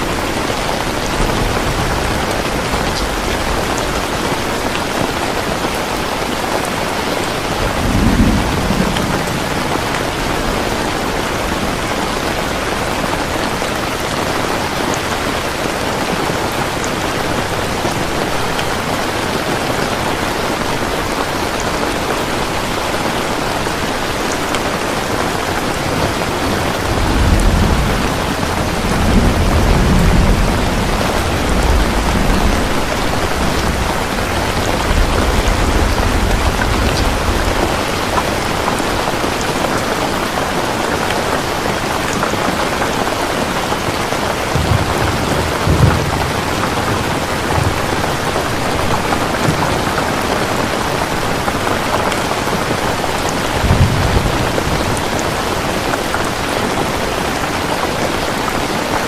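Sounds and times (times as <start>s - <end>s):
thunder rumbling: 0.0s - 19.7s, 21.0s - 57.5s
steady rain falling: 0.0s - 59.0s.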